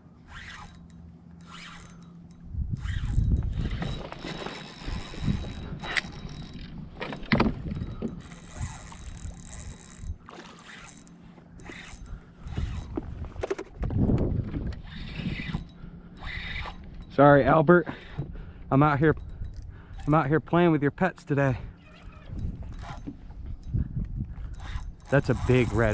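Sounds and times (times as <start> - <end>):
fishing reel whirring and clicking: 0.2 - 13.0, 14.6 - 17.2, 19.0 - 20.3, 21.4 - 25.9.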